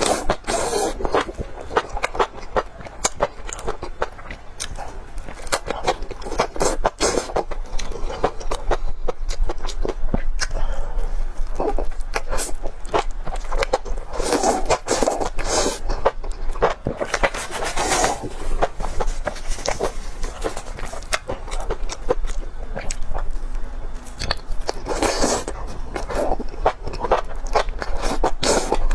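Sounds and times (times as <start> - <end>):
person chewing food: 0.0 - 28.9.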